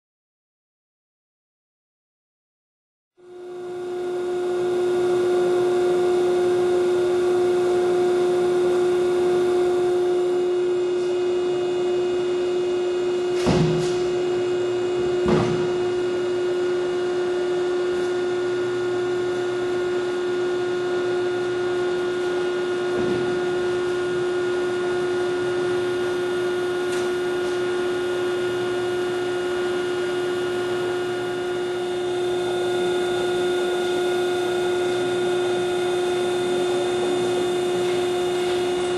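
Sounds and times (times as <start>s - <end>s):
bending machine motor hum: 3.2s - 38.9s.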